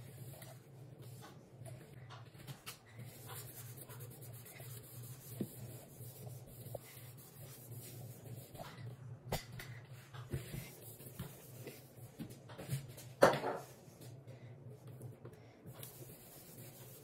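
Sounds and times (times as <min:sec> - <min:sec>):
cloth wiping countertop: 0:00.0 - 0:09.0, 0:09.9 - 0:14.2, 0:15.7 - 0:17.0
steady low hum: 0:00.0 - 0:17.0.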